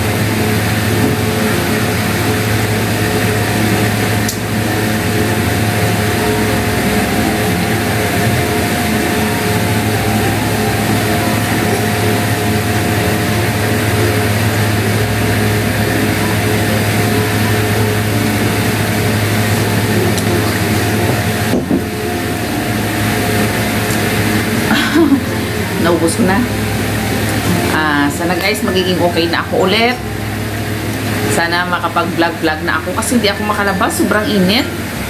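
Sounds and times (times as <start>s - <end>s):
electric fan whooshing: 0.0s - 35.0s
low motor hum: 0.0s - 35.0s.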